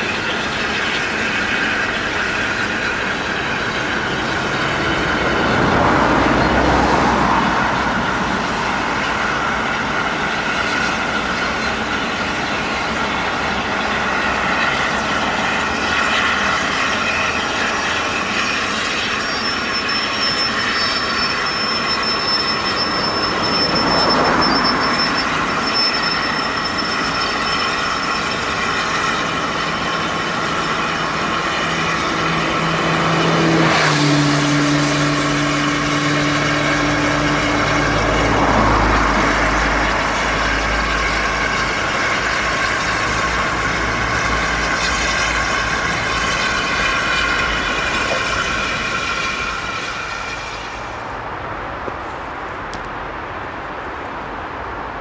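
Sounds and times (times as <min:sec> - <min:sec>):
road traffic passing: 0:00.0 - 0:55.0
steam train crossing bridge: 0:00.0 - 0:55.0.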